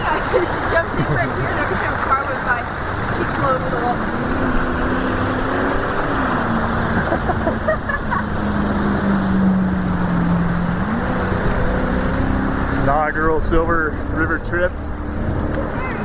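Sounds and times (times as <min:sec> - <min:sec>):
vehicle engine hum: 0:00.0 - 0:16.0
water rushing and splashing: 0:00.0 - 0:16.0.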